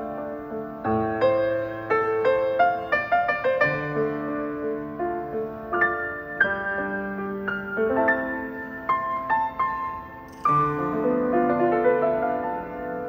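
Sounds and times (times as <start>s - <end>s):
grand piano melody: 0.0s - 13.0s.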